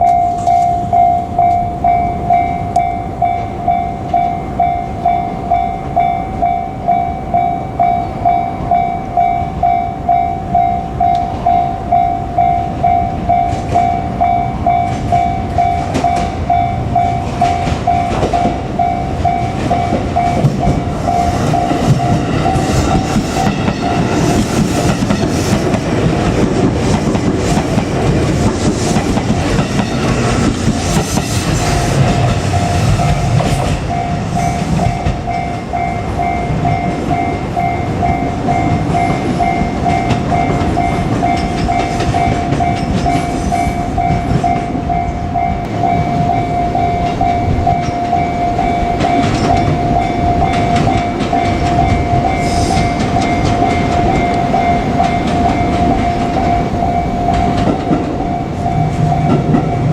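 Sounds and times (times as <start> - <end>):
level crossing bell ringing: 0.0 - 24.7, 31.7 - 59.9
train wheels clattering on rails: 0.0 - 59.9.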